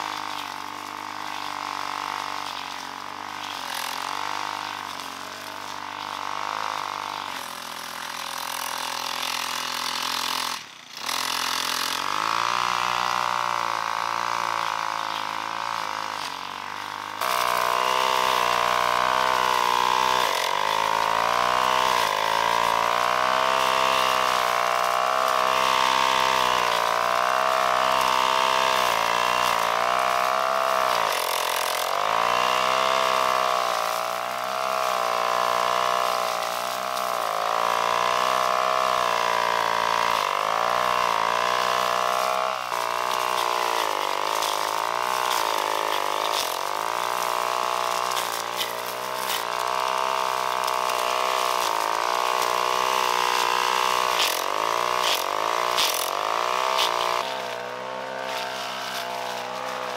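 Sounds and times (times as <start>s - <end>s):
power tool motor running: 0.0s - 59.9s.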